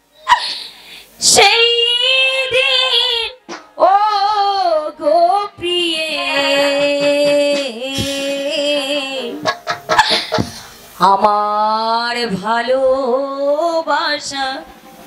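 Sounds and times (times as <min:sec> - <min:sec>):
woman singing into a microphone: 0:01.2 - 0:09.5, 0:11.0 - 0:14.8.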